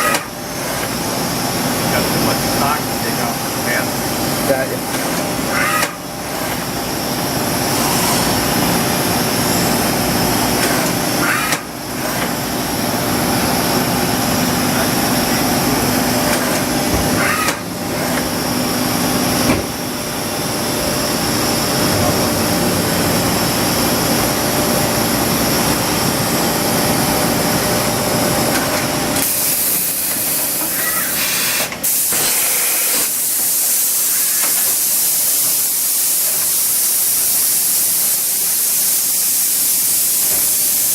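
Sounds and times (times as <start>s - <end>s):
machine hum with high whine: 0.0s - 40.9s.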